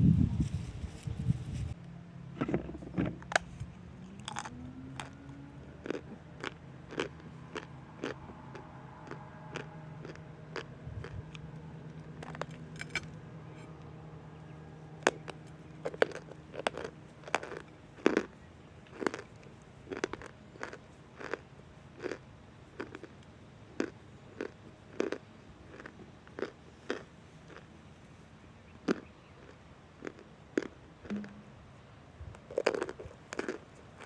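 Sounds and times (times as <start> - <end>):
crunchy chewing: 0.4 - 31.3, 32.3 - 34.0.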